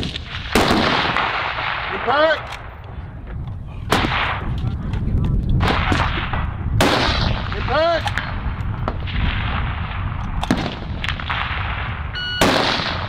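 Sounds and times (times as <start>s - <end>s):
rifle shots: 0.0s - 2.8s, 3.9s - 4.6s, 5.6s - 13.0s.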